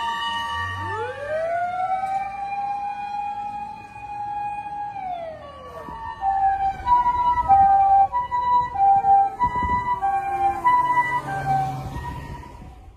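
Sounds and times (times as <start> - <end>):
siren winding down: 0.0 - 12.9
two-tone ambulance siren: 0.0 - 12.9.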